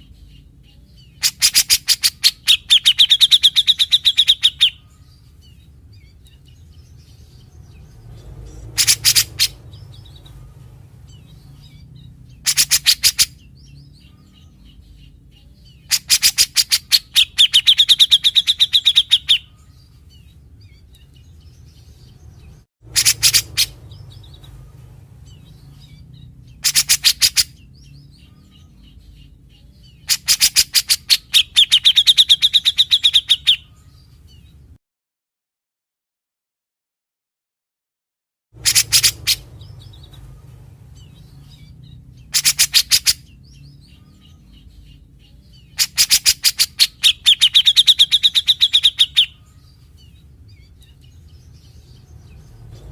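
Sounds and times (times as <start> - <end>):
bird singing harsh rattling notes: 0.0 - 33.8, 38.6 - 52.9.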